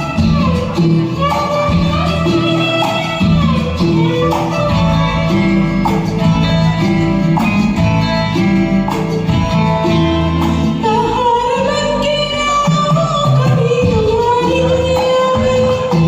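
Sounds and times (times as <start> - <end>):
instrumental backing track: 0.0 - 16.0.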